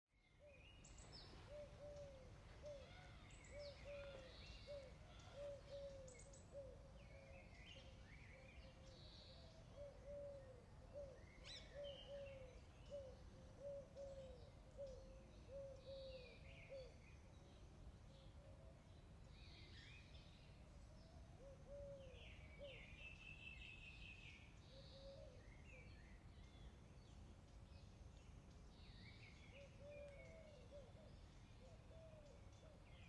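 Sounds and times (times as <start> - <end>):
faint outdoor hiss: 0.1 - 33.0.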